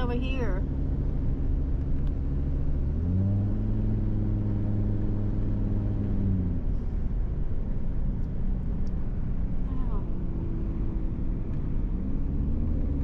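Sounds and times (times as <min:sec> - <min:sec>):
car engine: 0:00.0 - 0:13.0
road noise inside car: 0:00.0 - 0:13.0.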